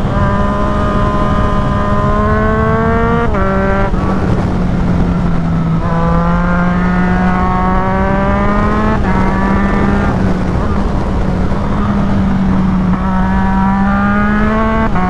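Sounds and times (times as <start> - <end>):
motorcycle engine revving: 0.0 - 15.0
wind rushing over microphone: 0.0 - 15.0.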